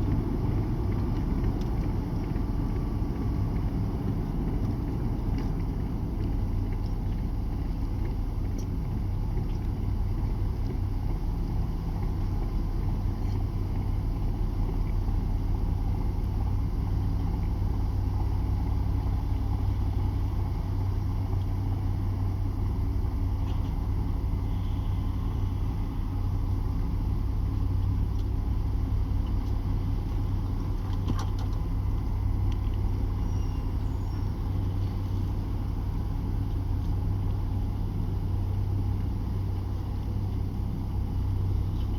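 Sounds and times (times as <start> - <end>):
boat diesel engine drone: 0.0 - 41.9.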